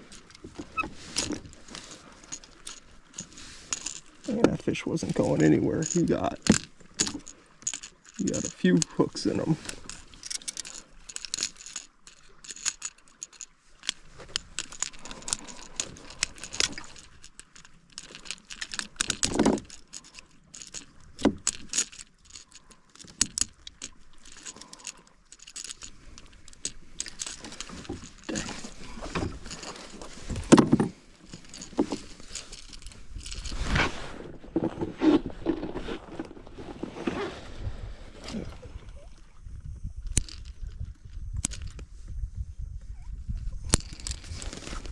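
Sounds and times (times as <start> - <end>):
fishing hooks jingling and clicking: 0.0 - 33.8, 39.8 - 41.9, 43.4 - 44.9.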